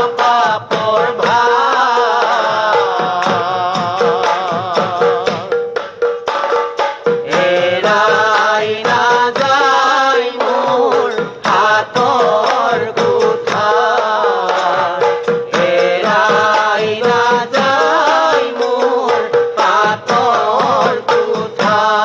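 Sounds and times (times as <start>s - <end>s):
drum accompaniment: 0.0s - 22.0s
voices singing devotional song: 0.0s - 22.0s.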